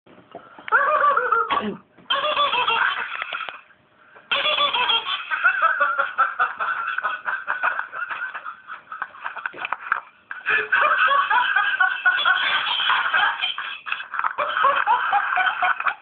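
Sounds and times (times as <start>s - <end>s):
parrot laughing: 0.7s - 3.6s, 4.3s - 16.0s.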